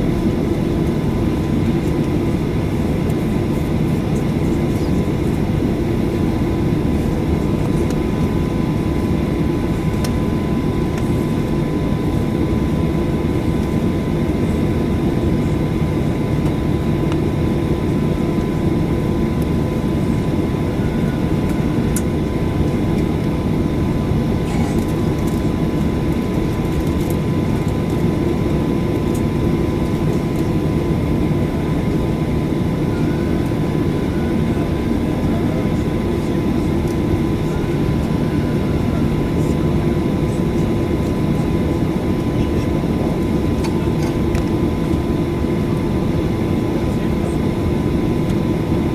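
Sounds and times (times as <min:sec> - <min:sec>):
jet cabin rumble and air rush: 0:00.0 - 0:48.9
thin steady whine: 0:00.0 - 0:48.9.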